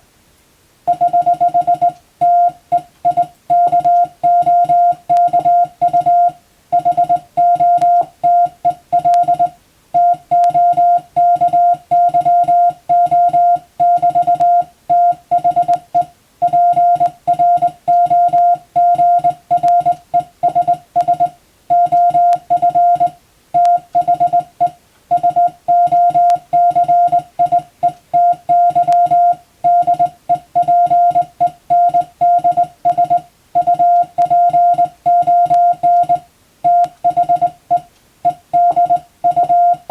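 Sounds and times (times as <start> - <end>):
morse code beeps: 0.9 - 39.9.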